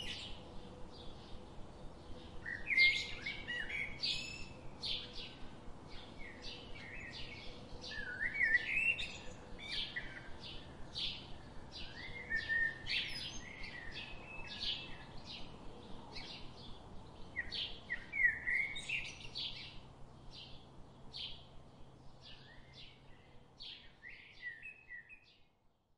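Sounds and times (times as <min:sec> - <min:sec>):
small birds chirping: 0:00.0 - 0:25.5
faint steady hum: 0:00.0 - 0:25.9.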